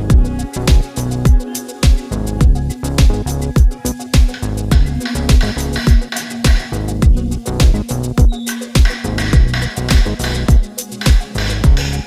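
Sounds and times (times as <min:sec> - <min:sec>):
pop music with electronic beat: 0:00.0 - 0:12.0
deep kick drum: 0:00.1 - 0:12.0.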